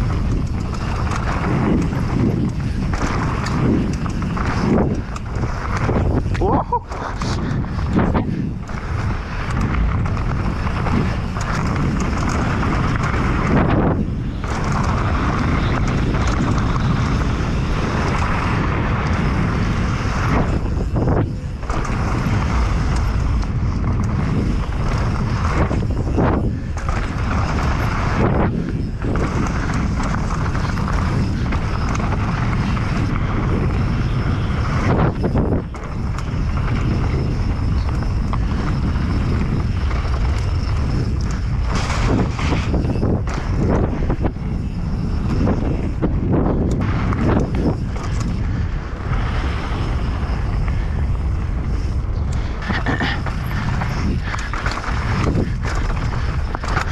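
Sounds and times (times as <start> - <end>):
mountain bike rattling on dirt trail: 0.0 - 56.9
wind rushing over microphone: 0.0 - 56.9.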